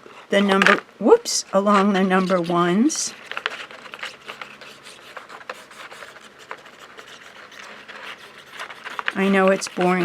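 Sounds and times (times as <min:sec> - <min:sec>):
cardstock rubbing and scratching: 0:01.5 - 0:10.0.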